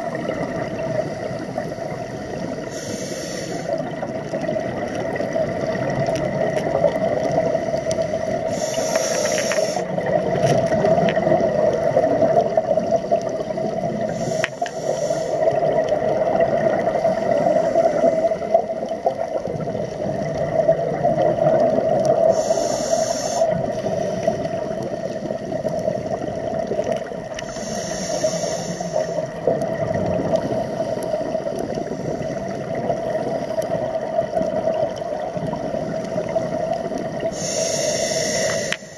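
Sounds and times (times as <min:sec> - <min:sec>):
diver breathing bubbles: 0:00.0 - 0:38.9
muffled underwater rushing: 0:00.0 - 0:38.9.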